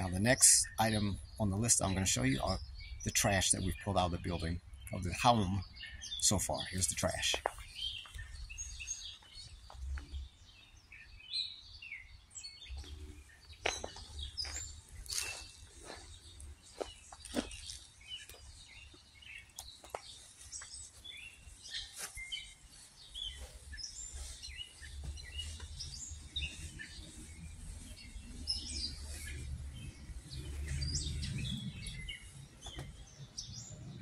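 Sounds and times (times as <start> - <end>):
birds chirping and singing: 0.0 - 34.0.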